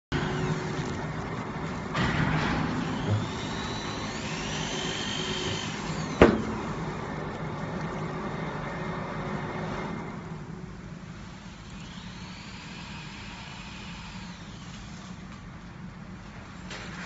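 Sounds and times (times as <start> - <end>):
machine hum with high whine: 0.0 - 17.0.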